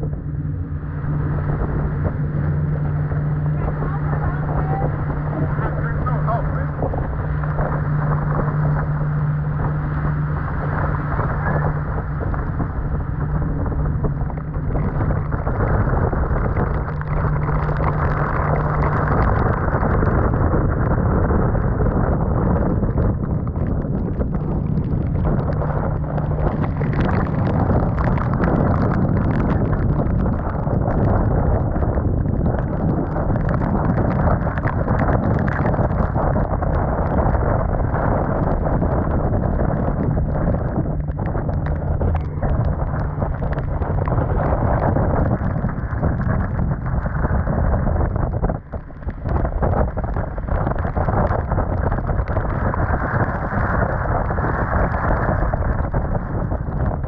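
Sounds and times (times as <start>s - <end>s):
storm wind buffeting microphone: 0.0s - 57.0s
rain pelting canvas: 2.2s - 57.0s.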